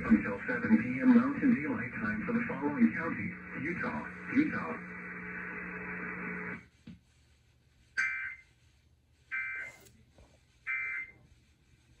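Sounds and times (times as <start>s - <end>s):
broadcast background hiss and hum: 0.0s - 12.0s.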